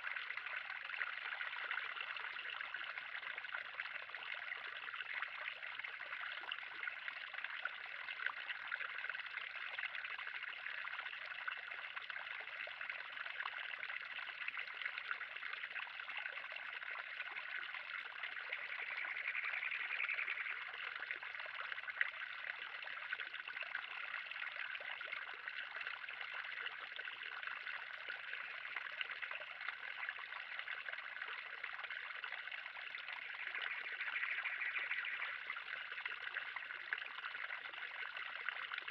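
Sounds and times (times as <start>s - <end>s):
water trickling into a pond: 0.0s - 38.9s.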